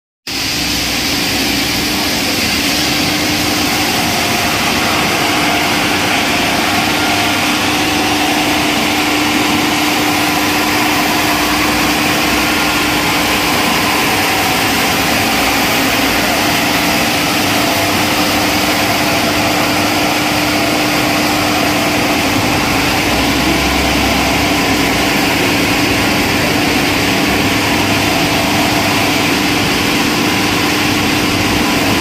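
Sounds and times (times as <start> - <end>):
wood sanding machine running: 0.3 - 32.0.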